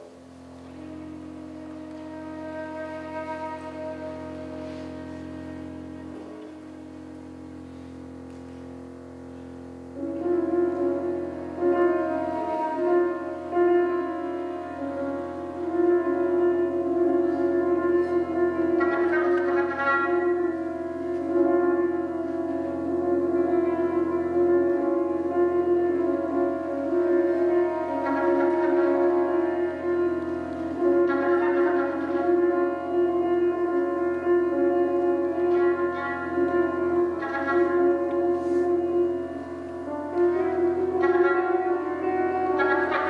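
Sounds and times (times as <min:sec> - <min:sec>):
chamber quartet long held notes: 0:00.0 - 0:43.0.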